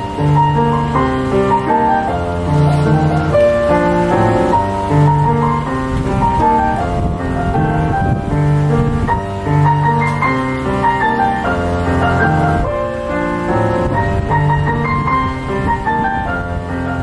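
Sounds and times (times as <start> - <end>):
grand piano playing: 0.0 - 17.0.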